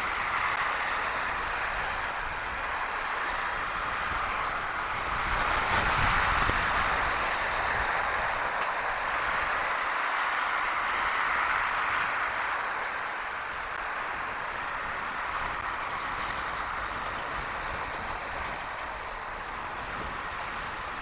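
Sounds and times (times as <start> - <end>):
storm wind rushing: 0.0 - 21.0
wind buffeting microphone: 0.0 - 21.0.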